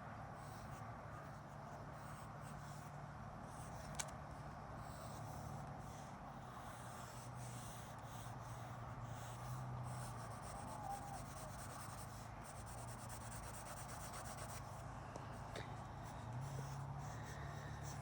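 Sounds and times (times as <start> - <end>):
steady low hum: 0.0 - 18.0
pen scratching on paper: 0.3 - 18.0.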